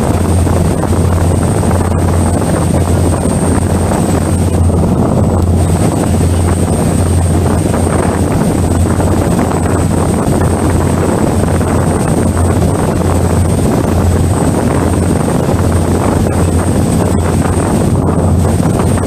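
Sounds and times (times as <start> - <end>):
ferry engines droning: 0.0 - 19.0
wind and water rushing: 0.0 - 19.0.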